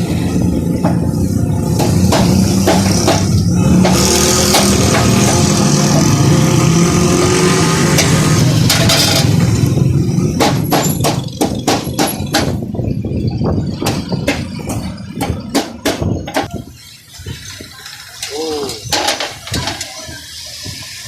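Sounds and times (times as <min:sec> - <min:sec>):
loud street noise: 0:00.0 - 0:21.0.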